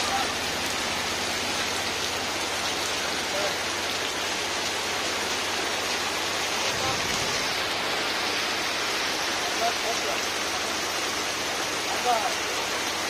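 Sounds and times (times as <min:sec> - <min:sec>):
heavy rain on water: 0:00.0 - 0:13.0.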